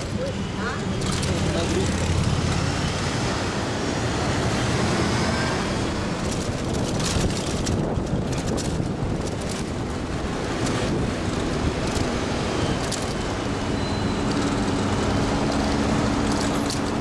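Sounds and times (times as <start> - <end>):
engine and road noise: 0.0 - 17.0.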